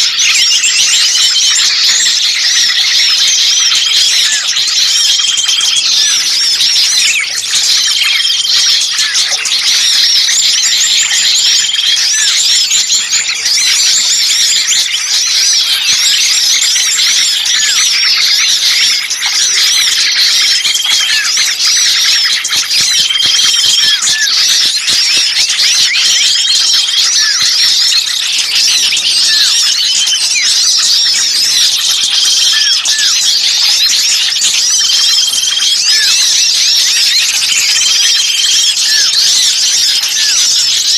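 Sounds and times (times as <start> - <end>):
small birds twittering: 0.0 - 40.9.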